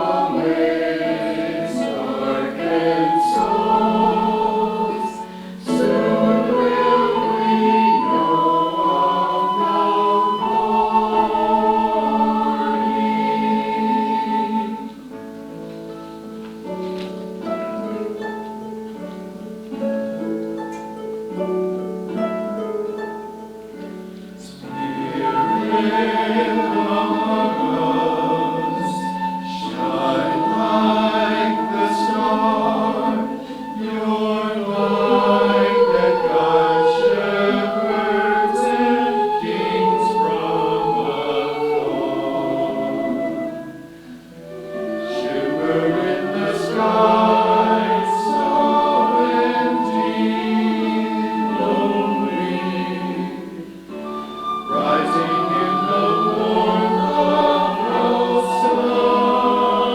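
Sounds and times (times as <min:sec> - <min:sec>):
church choir singing: 0:00.0 - 0:20.8, 0:23.7 - 0:59.9
plucked instrumental notes: 0:00.0 - 0:59.9.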